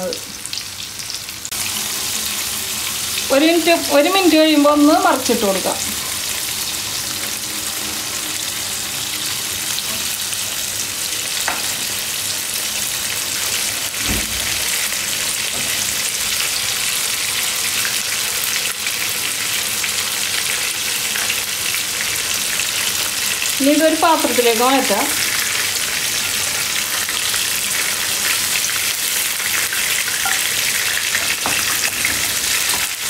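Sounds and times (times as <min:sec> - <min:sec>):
chicken sizzling in oil: 0:00.0 - 0:33.0.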